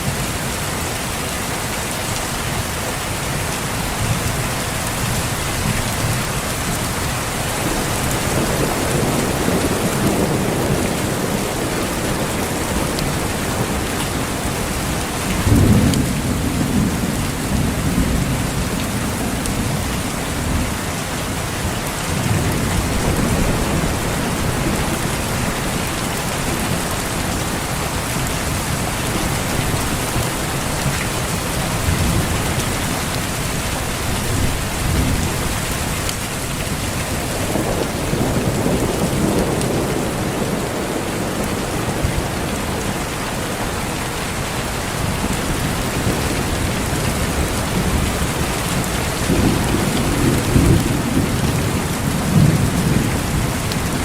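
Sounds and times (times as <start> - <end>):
heavy rain on foliage: 0.0 - 54.0
thunder rumbling: 7.4 - 43.8, 44.4 - 54.0.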